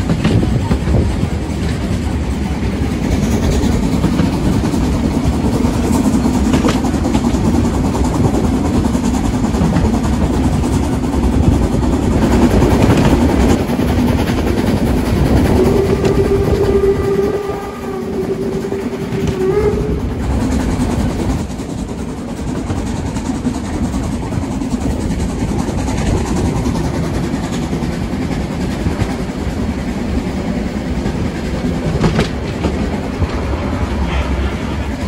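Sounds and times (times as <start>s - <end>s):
rail clatter: 0.0s - 35.0s
steam train rumbling: 0.0s - 35.0s.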